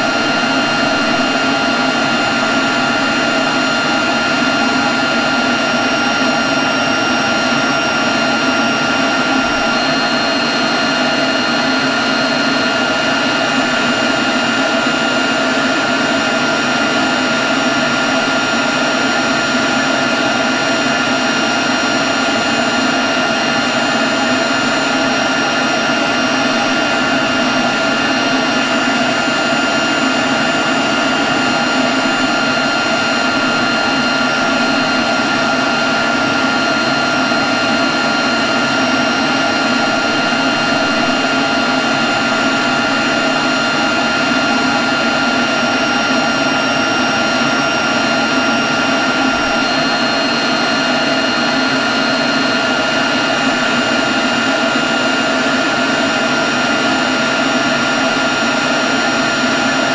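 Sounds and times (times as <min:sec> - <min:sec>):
leaf blower running: 0:00.0 - 0:59.9.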